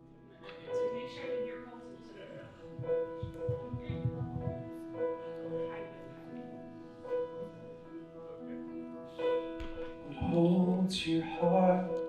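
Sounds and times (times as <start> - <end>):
soft keyboard worship music: 0.0 - 12.0.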